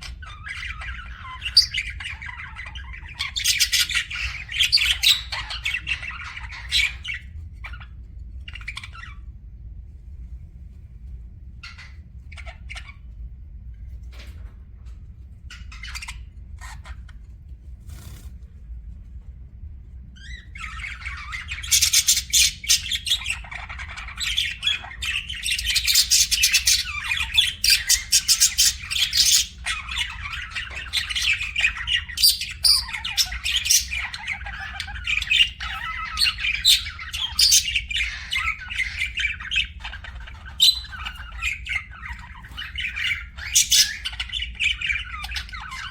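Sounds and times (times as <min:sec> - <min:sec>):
budgerigars chirping: 0:00.0 - 0:07.9, 0:08.5 - 0:09.2, 0:11.6 - 0:13.1, 0:15.5 - 0:17.2, 0:17.9 - 0:18.3, 0:20.2 - 0:45.9
steady low hum: 0:00.0 - 0:45.9.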